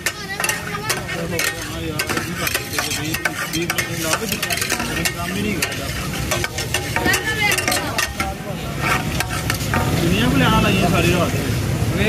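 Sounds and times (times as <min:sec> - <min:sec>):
metal spatula scraping griddle: 0:00.0 - 0:11.1
frying sizzle: 0:00.0 - 0:12.0.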